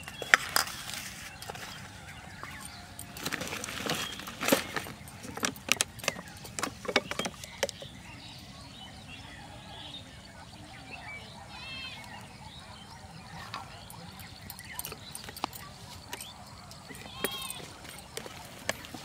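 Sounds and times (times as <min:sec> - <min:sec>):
bird chirp: 0:00.0 - 0:19.0
faint outdoor background: 0:00.0 - 0:19.0.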